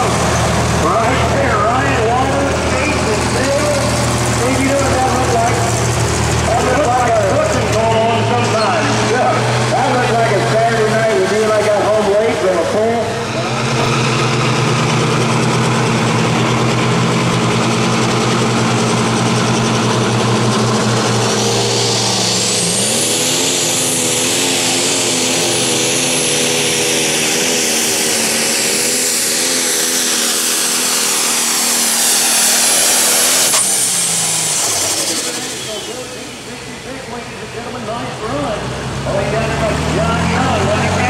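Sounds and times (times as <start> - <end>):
high whine: 0.0 - 38.3
diesel tractor engine revving: 0.0 - 41.0.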